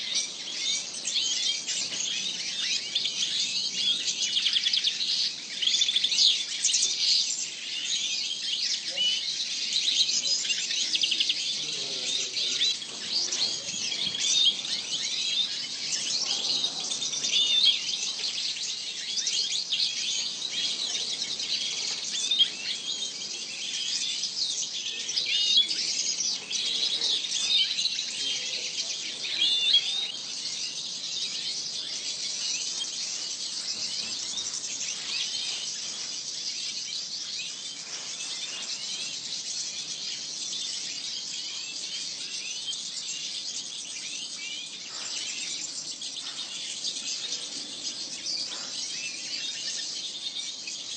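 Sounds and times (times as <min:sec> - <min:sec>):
finches chirping and twittering: 0:00.0 - 0:50.9.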